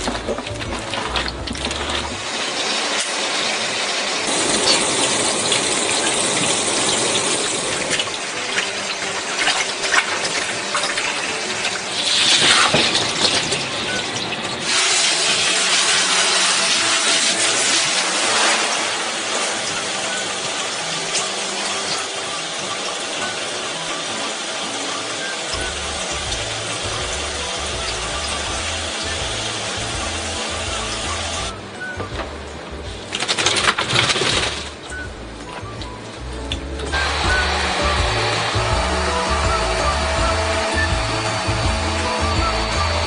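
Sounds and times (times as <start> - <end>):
running water splashing in a tub: 0.0 - 31.6, 36.5 - 43.0.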